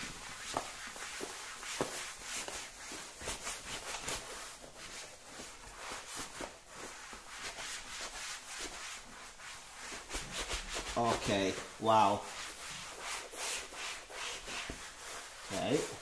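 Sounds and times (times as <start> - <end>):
cloth rag rubbing on faux leather: 0.0 - 16.0.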